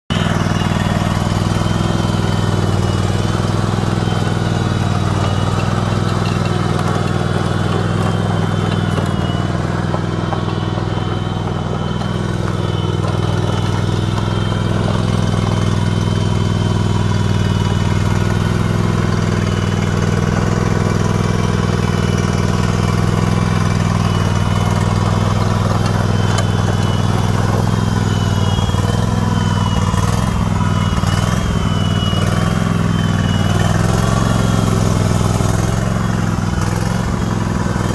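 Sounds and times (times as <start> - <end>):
riding lawn mower engine: 0.0 - 37.9.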